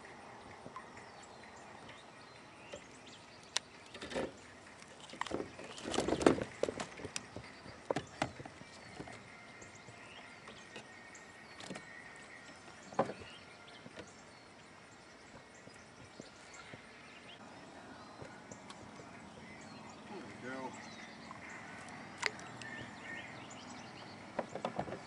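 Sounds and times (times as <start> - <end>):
faint outdoor background: 0.0 - 25.0.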